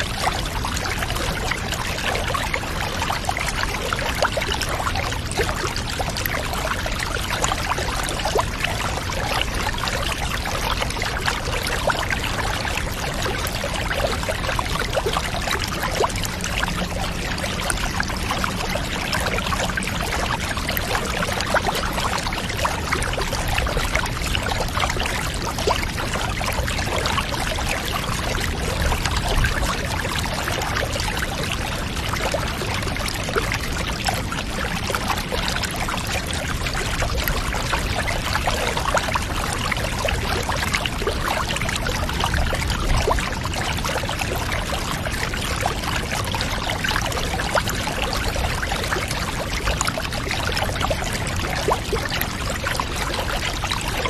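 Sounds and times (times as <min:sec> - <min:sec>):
water pouring and trickling: 0:00.0 - 0:54.0.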